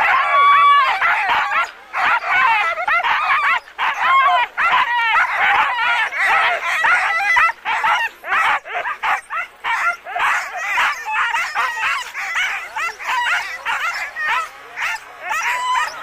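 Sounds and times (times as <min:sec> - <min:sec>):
dogs barking and yipping: 0:00.0 - 0:16.0.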